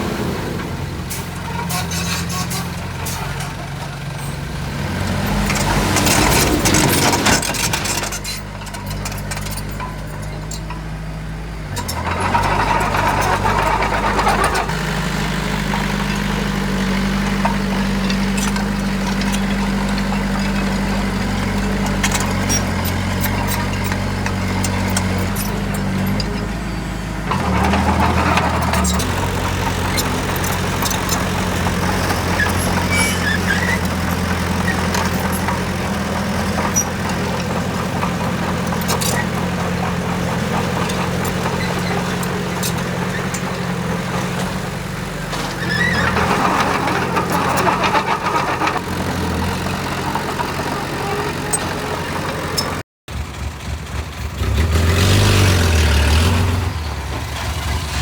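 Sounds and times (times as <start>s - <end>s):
construction machinery diesel engine: 0.0s - 58.0s.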